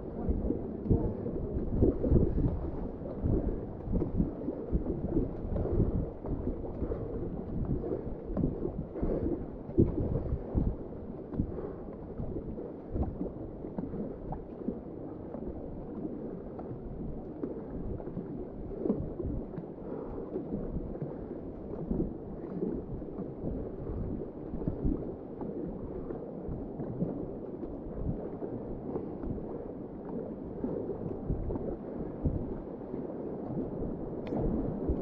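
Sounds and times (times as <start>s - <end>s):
water splashes: 0.0s - 35.0s.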